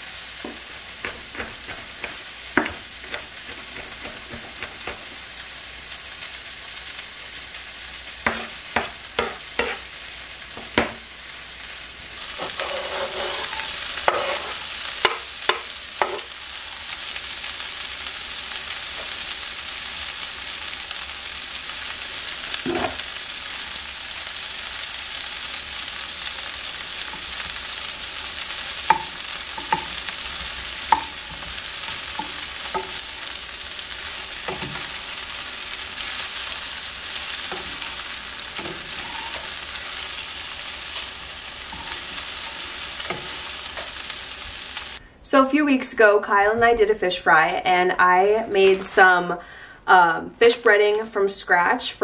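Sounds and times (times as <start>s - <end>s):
vegetables sizzling in oil: 0.0s - 45.0s.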